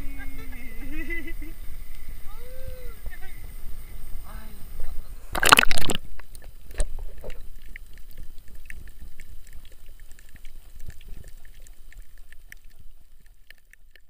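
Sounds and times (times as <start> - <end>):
reef clicks and crackles: 0.0 - 14.0
underwater low rumble: 0.0 - 14.0.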